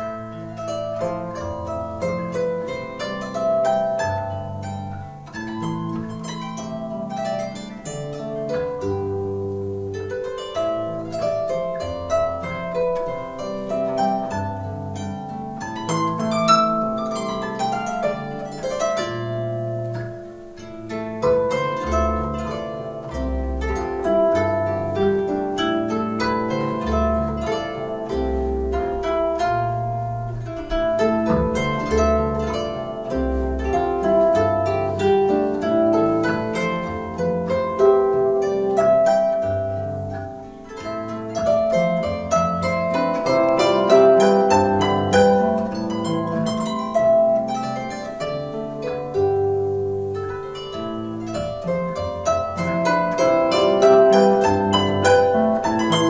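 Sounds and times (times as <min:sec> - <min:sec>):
harp playing: 0:00.0 - 0:56.0.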